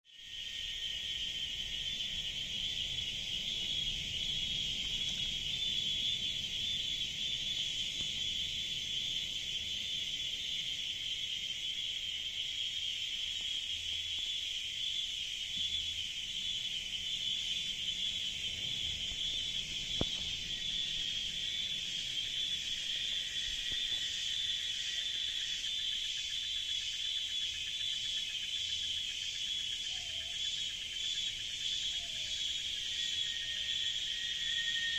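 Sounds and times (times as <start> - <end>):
cicadas buzzing: 0.1 - 34.9.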